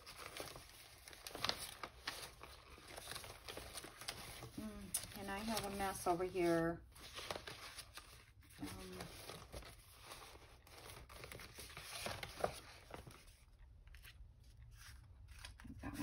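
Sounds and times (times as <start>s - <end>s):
paper rustling and shuffling: 0.0s - 16.0s.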